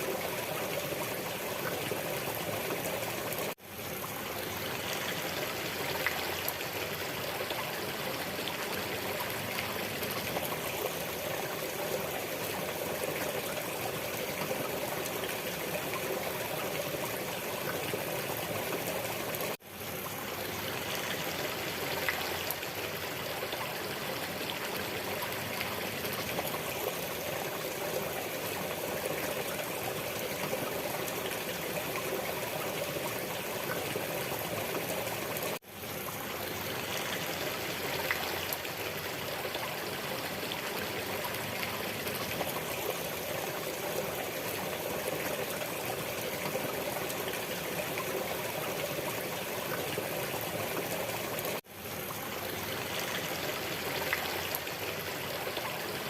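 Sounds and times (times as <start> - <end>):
trickling stream: 0.0 - 56.0.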